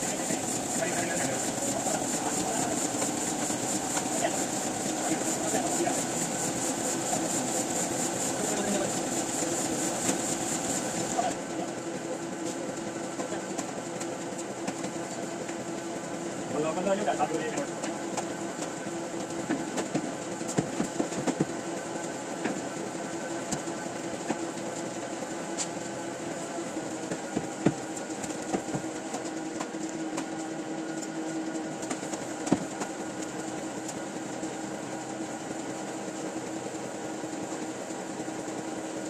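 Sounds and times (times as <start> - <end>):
printing press machinery hum: 0.0 - 39.0.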